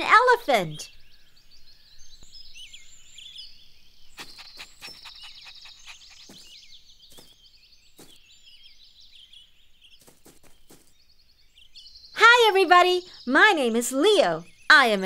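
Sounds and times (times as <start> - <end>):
bird trill: 0.0 - 15.0
small birds chirping: 0.0 - 15.0.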